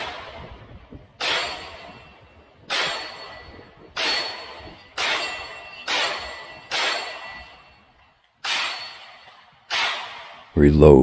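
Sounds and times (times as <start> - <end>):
pistol shots with ringing tail: 0.0 - 10.5.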